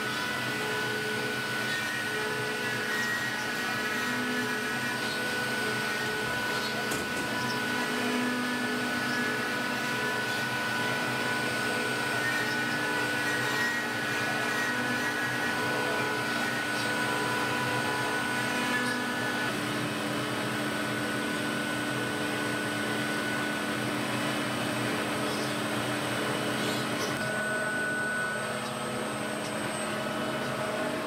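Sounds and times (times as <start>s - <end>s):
router spindle whine: 0.0s - 31.0s
bit cutting wood: 0.1s - 31.0s.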